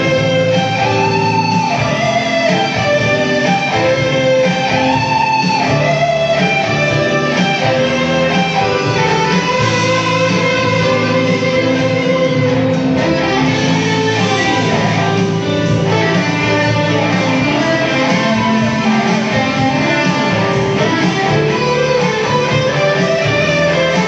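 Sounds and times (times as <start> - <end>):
electric guitar melody: 0.0 - 24.0
low bass line: 0.0 - 24.0.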